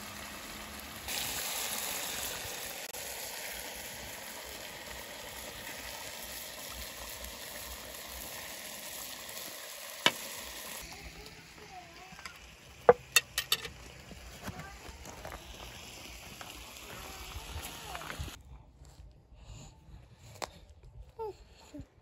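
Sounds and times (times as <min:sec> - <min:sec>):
stew simmering and sizzling: 0:00.0 - 0:18.4.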